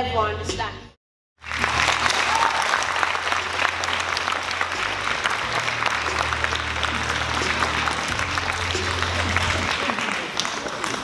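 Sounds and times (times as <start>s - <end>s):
audience clapping: 1.4s - 11.0s.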